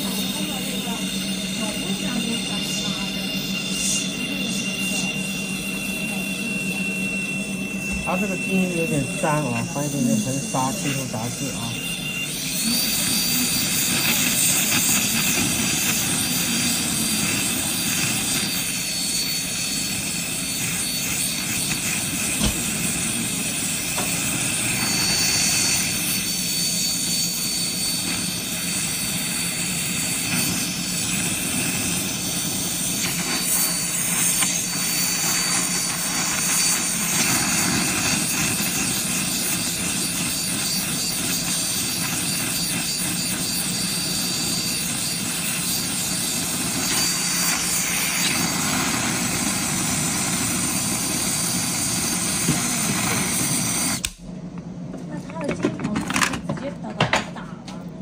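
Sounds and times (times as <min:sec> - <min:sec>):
thin high whistle: 0:00.0 - 0:54.1
torch flame hissing: 0:00.0 - 0:54.5.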